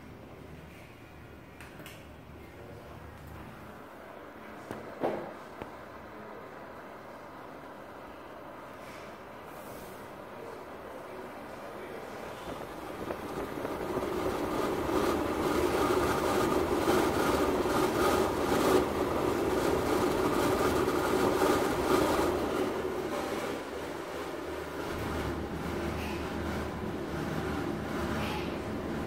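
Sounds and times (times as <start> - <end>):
exhaust fan whirring: 0.0 - 29.0.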